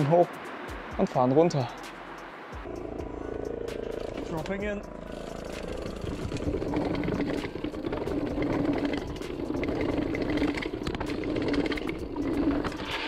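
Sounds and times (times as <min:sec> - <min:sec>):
steady buzz: 0:01.8 - 0:13.0.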